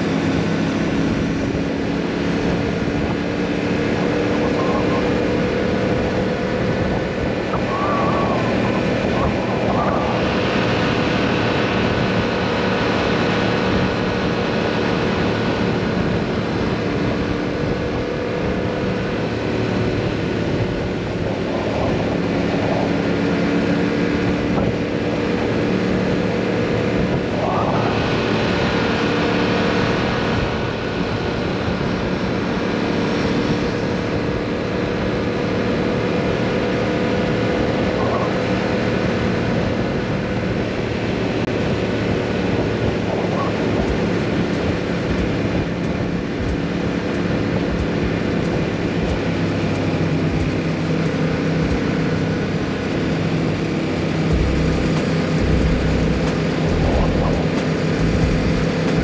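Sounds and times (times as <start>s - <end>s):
motorcycle engine and exhaust: 0.0s - 59.0s
wind rush on microphone: 0.0s - 59.0s.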